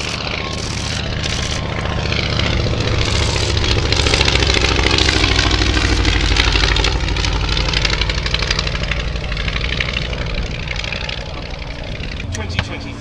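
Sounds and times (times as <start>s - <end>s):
propeller aircraft piston engine: 0.0s - 13.0s.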